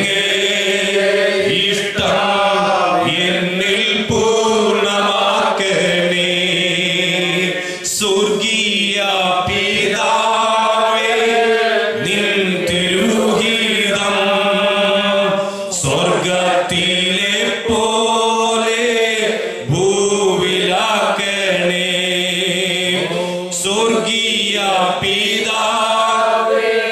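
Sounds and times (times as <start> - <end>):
person singing worship song: 0.0 - 26.9.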